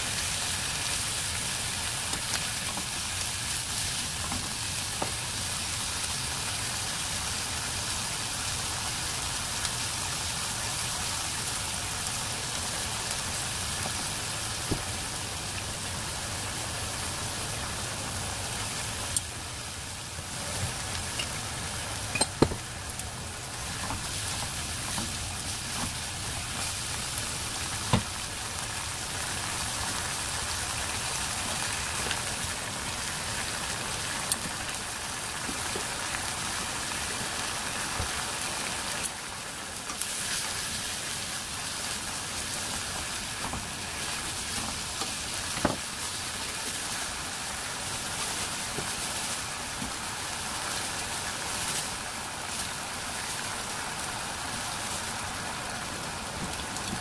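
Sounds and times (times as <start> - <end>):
meat sizzling in a frying pan: 0.0 - 55.8.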